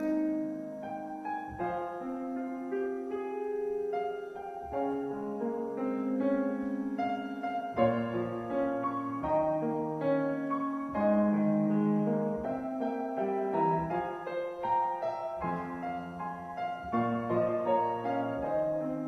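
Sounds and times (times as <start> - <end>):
solo piano playing slow chords: 0.0 - 19.0.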